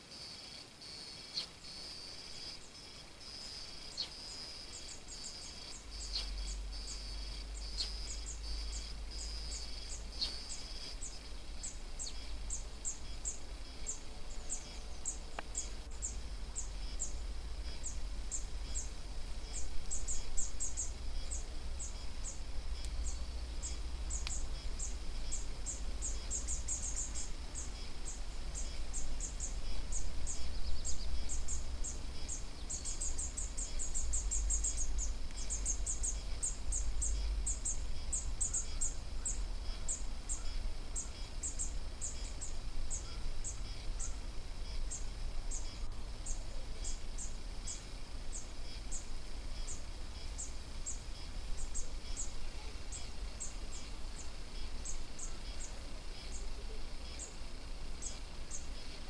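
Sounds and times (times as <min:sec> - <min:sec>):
insect chirping: 0:00.0 - 0:59.0.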